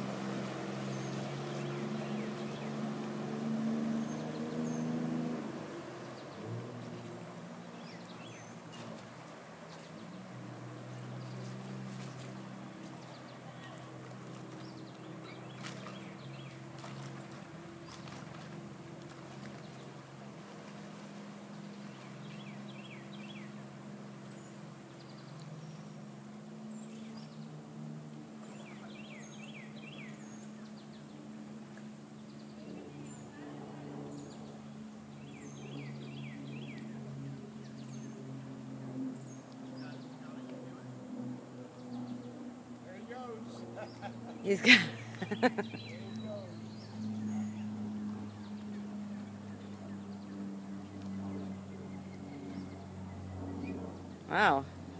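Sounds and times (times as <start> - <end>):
distant jet ski engine: 0.0 - 54.9.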